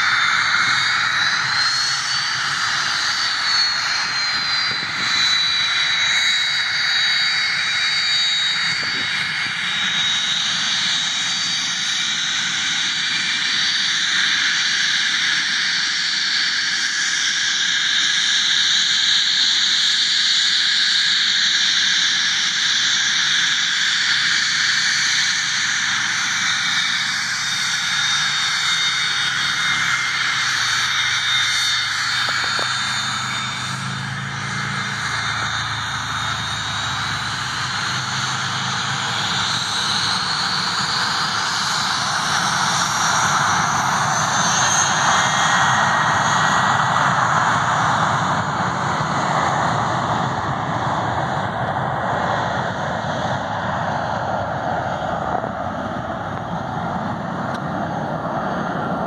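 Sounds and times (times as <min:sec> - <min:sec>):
jet engines taxiing with whine: 0:00.0 - 0:59.0.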